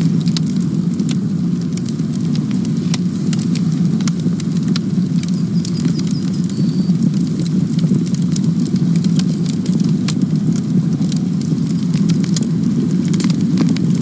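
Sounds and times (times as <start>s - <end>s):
fire flames rushing: 0.0s - 14.0s
wood crackling and popping: 0.0s - 14.0s.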